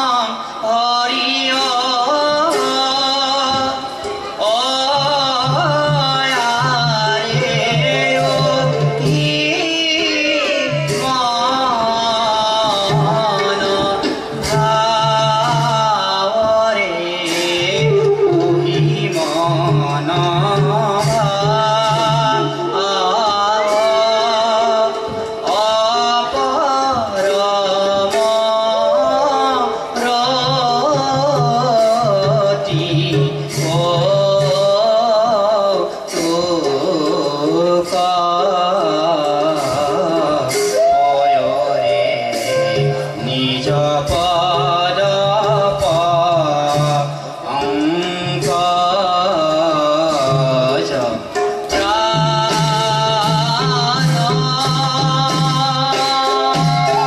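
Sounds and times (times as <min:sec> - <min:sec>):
hand cymbals struck: 0:00.0 - 0:57.0
man singing: 0:00.0 - 0:57.0
bamboo flute: 0:01.5 - 0:35.4, 0:37.8 - 0:48.5, 0:51.4 - 0:57.0.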